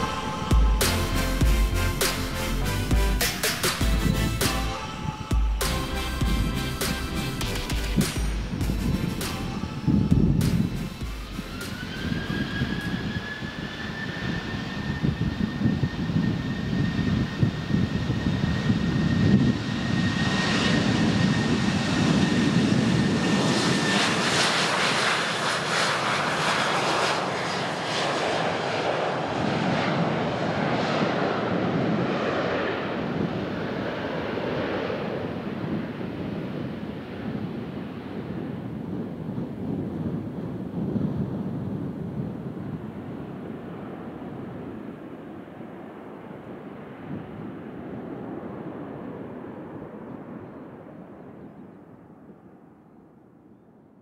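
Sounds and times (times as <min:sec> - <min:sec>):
jet engines taking off: 0:00.0 - 0:53.0.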